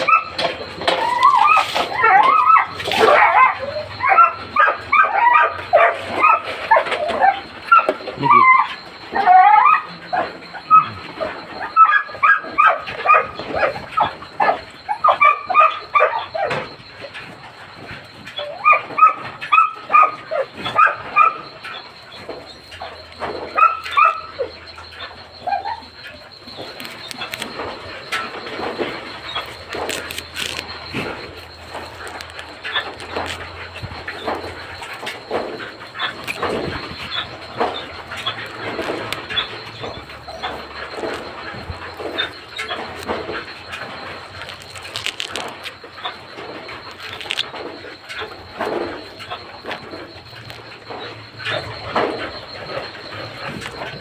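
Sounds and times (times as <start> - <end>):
dogs yipping whining and barking: 0.0 - 54.0.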